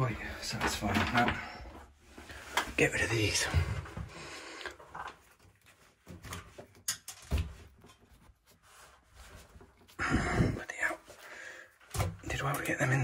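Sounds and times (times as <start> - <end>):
cables rustling and knocking: 0.0 - 10.6, 11.7 - 13.0.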